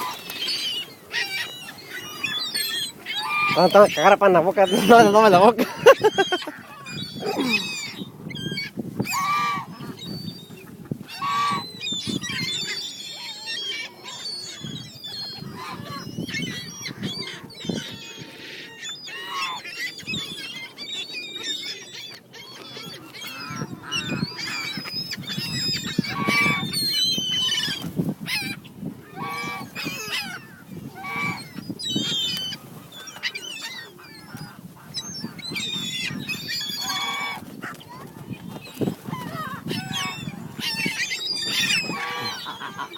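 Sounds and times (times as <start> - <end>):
birds calling: 0.0 - 42.9.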